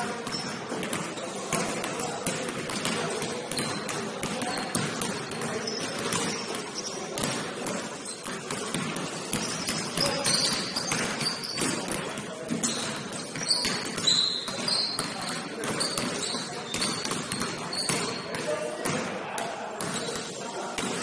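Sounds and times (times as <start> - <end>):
sneakers squeaking: 0.0 - 19.1, 19.8 - 21.0
basketball bouncing: 0.2 - 6.6, 7.2 - 19.0.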